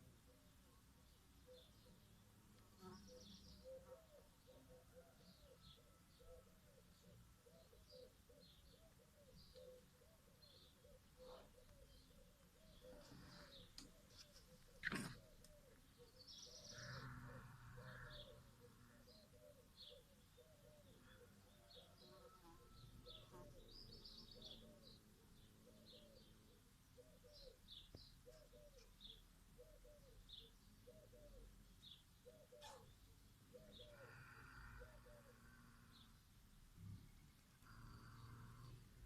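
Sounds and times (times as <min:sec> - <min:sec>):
low repeated bird calls: 0:00.0 - 0:39.0.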